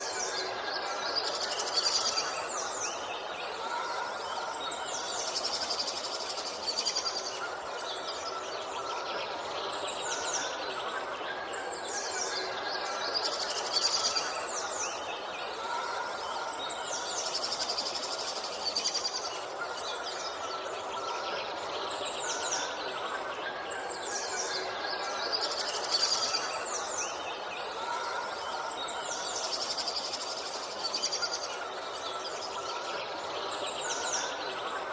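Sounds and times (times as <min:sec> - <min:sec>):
birds chirping and singing: 0:00.0 - 0:34.9
steady background hiss: 0:00.0 - 0:34.9.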